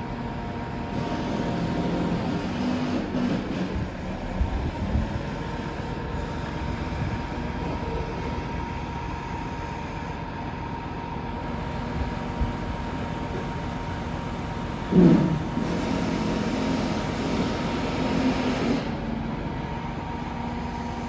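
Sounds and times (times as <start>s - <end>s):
heavy vehicle engine rumble: 0.0s - 21.0s.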